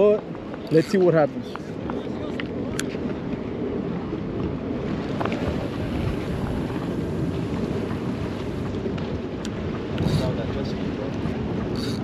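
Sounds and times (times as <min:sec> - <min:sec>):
faint sea: 0:00.0 - 0:12.0
wind buffeting microphone: 0:00.0 - 0:12.0.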